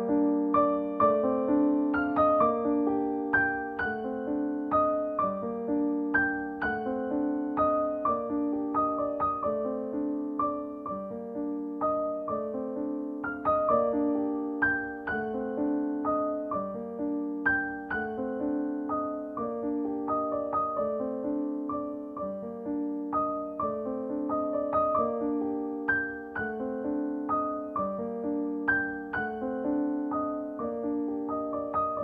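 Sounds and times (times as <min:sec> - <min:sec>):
gentle piano melody: 0:00.0 - 0:32.0.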